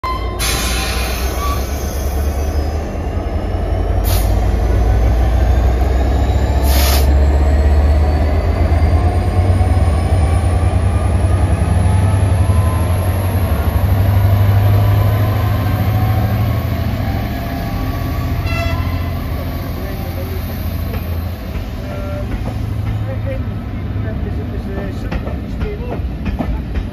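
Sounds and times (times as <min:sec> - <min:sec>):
diesel locomotive engine drone: 0:00.0 - 0:26.9.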